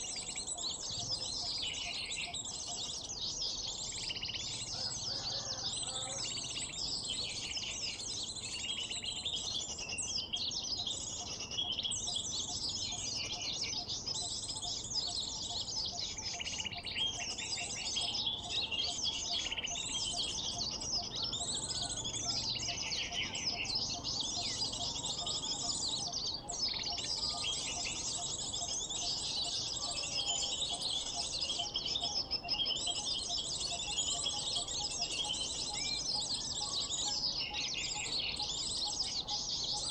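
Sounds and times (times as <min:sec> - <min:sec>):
small birds twittering and chirping: 0:00.0 - 0:39.9.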